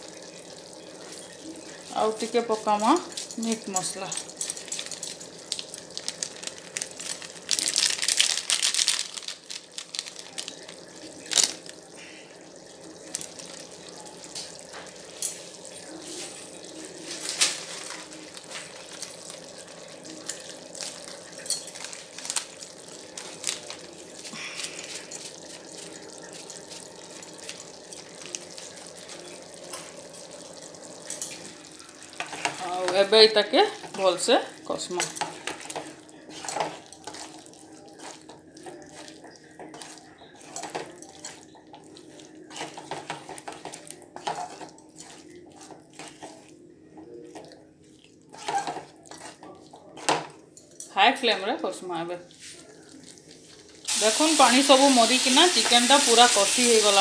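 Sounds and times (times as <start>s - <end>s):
chicken simmering and bubbling: 0.0s - 2.8s, 4.7s - 32.8s, 34.0s - 50.8s, 52.2s - 54.8s.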